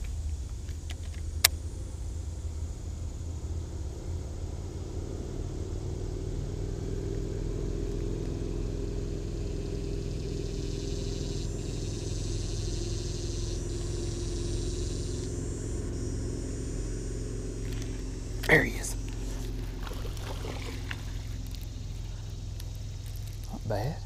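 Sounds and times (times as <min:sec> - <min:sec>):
boat motor running: 0:00.0 - 0:24.0.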